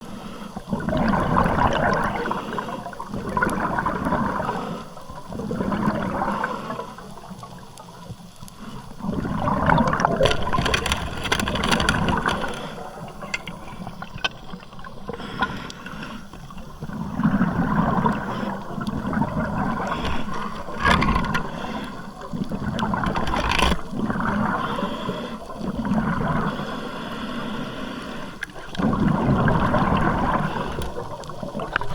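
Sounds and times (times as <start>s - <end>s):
water sloshing and gurgling: 0.0s - 31.9s.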